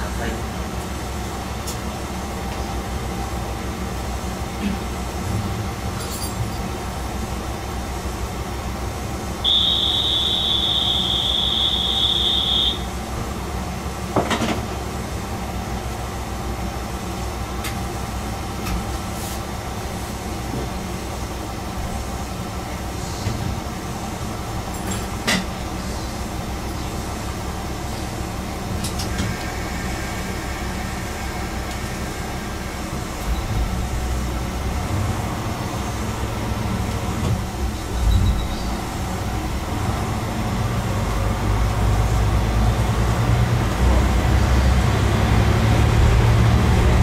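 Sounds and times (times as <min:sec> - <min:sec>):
railcar engine rumble: 0:00.0 - 0:47.0.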